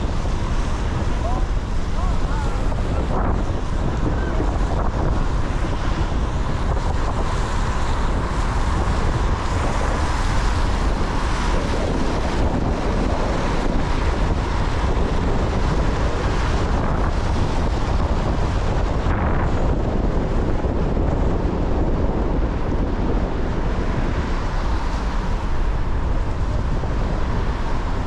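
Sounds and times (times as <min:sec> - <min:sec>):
tyres hissing on wet road: 0:00.0 - 0:28.0
wind rumble on microphone: 0:00.0 - 0:28.0.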